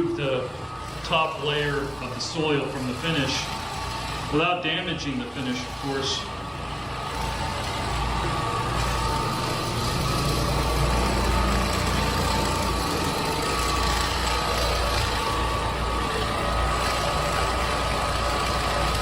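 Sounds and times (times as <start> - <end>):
floor-cleaning machine motor hum: 0.0 - 19.0
thin whine: 0.0 - 19.0.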